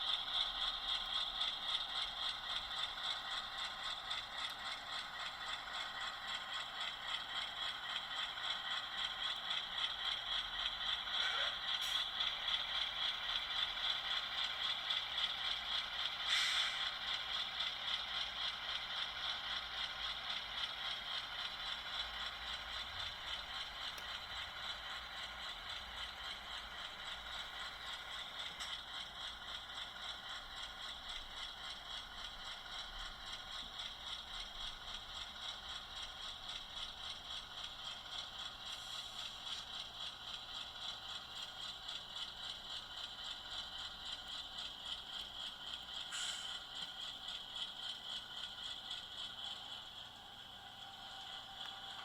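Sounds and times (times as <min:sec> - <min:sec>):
model train clicking on track: 0:00.0 - 0:52.0
model train mechanical hum: 0:00.0 - 0:52.0.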